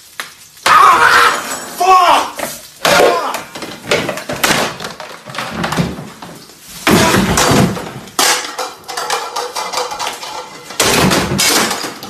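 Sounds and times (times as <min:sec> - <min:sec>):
objects crashing and clattering: 0:00.6 - 0:12.0.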